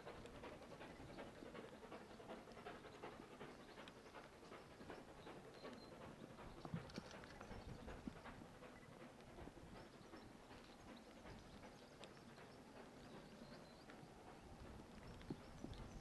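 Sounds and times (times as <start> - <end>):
distant steam locomotive exhaust beats: 0.0 - 16.0.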